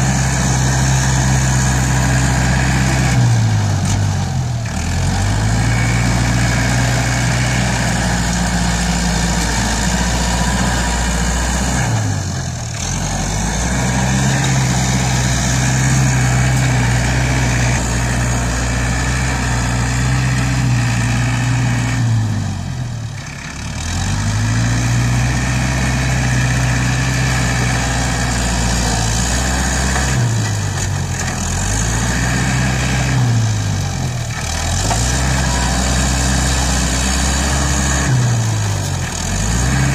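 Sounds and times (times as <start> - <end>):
tractor diesel engine labouring: 0.0 - 39.9.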